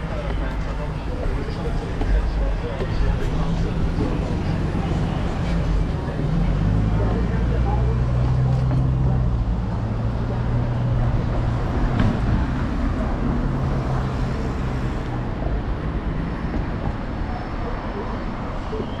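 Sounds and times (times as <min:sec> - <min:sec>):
road noise: 0:00.0 - 0:19.0
vehicle engine humming: 0:00.0 - 0:19.0.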